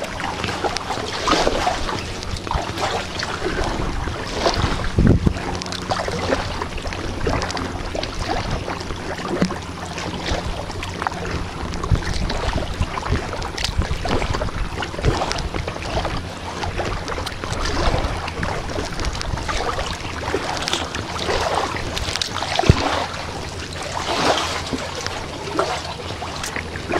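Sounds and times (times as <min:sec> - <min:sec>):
paddle splashing water: 0:00.0 - 0:26.9
water washing around hull: 0:00.0 - 0:26.9
wind rumble on microphone: 0:00.0 - 0:26.9.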